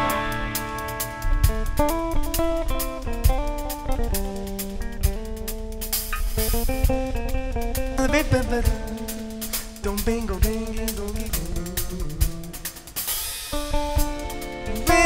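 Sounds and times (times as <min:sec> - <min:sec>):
drums and cymbals: 0:00.0 - 0:15.0
electric bass: 0:00.0 - 0:15.0
electric guitar melody: 0:00.0 - 0:15.0.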